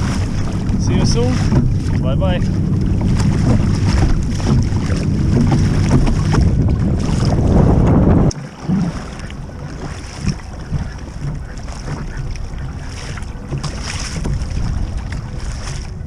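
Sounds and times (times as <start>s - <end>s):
water lapping against hull: 0.0s - 16.0s
wind buffeting microphone: 0.0s - 16.0s.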